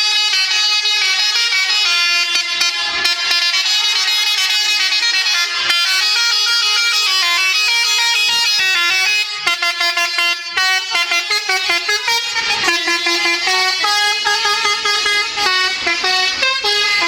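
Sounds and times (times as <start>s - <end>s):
multi-tone bus horn melody: 0.0s - 17.0s.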